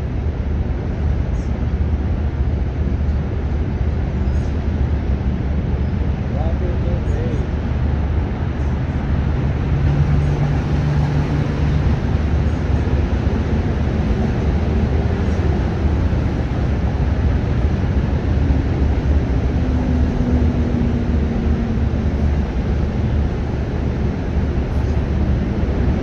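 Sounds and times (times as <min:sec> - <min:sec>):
faint engine hum: 0:00.0 - 0:26.0
low rumble of traffic: 0:00.0 - 0:26.0.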